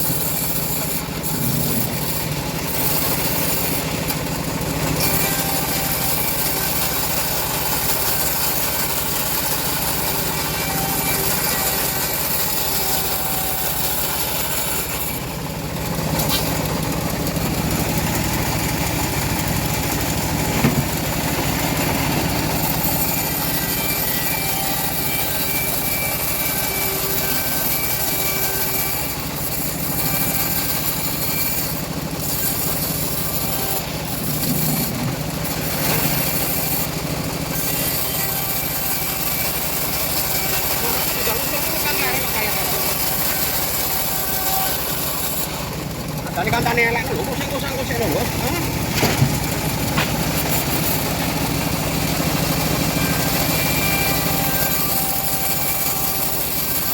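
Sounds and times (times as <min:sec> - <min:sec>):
bandsaw sawmill sawing log: 0:00.0 - 0:56.9.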